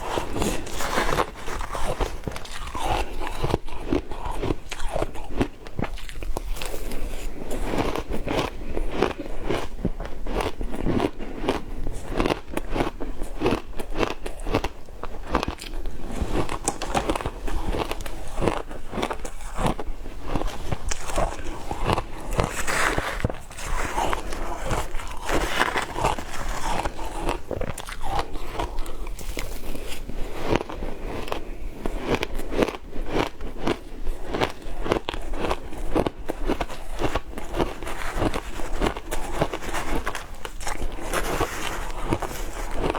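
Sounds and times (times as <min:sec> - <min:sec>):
ice being bitten and chewed: 0:00.0 - 0:42.9.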